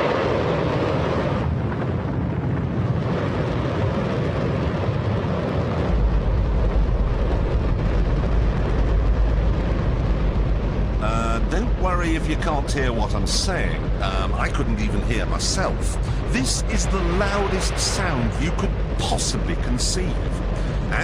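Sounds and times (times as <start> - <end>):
rocket engine roaring: 0.0 - 21.0.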